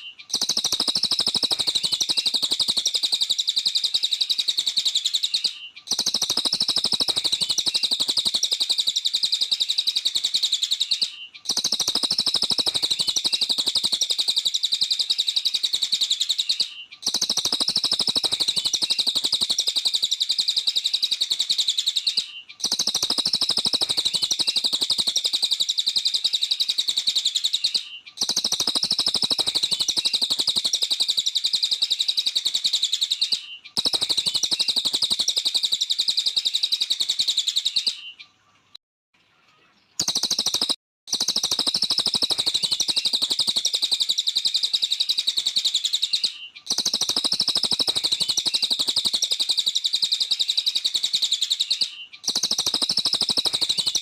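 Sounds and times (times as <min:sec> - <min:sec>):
songbird chattering song: 0:00.0 - 0:54.0.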